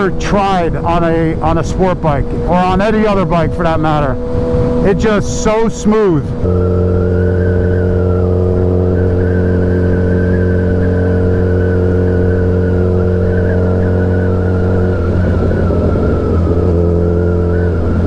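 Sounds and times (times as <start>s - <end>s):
motorcycle engine running: 0.0s - 5.4s, 6.2s - 18.0s.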